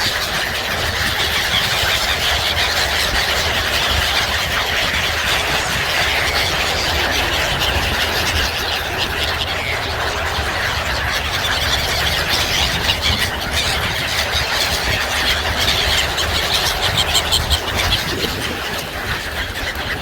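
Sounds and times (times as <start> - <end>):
seabirds calling and squealing: 0.0 - 20.0.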